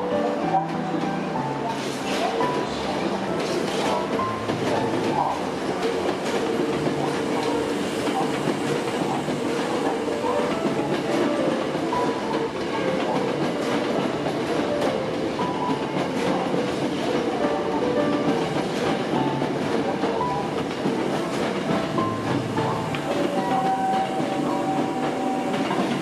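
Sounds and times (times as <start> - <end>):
electric train rolling past: 0.0 - 26.0.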